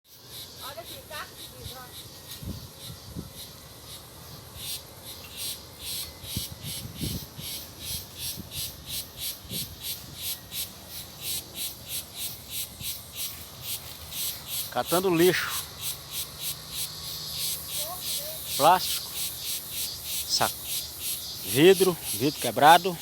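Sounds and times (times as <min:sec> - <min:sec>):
insects chirping: 0:00.1 - 0:23.0.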